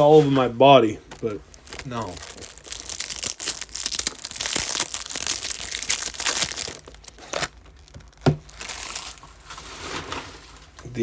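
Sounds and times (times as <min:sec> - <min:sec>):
plastic packaging crinkling: 0:01.0 - 0:10.9.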